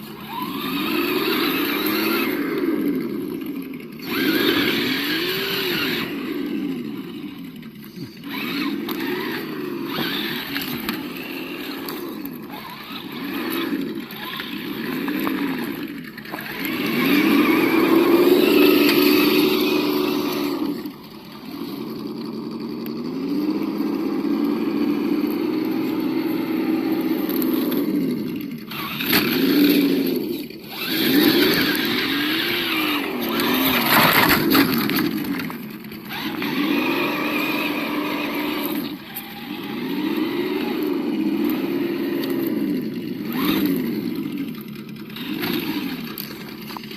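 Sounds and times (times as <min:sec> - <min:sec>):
simulated engine revving: 0:00.0 - 0:46.9.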